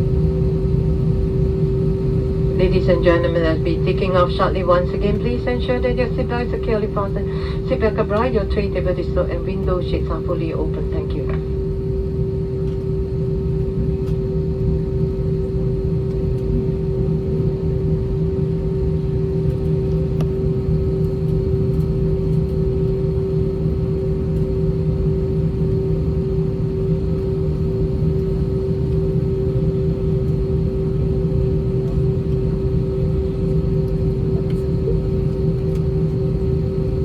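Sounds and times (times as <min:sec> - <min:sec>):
aircraft cabin engine drone: 0:00.0 - 0:37.0
constant hum tone: 0:00.0 - 0:37.0.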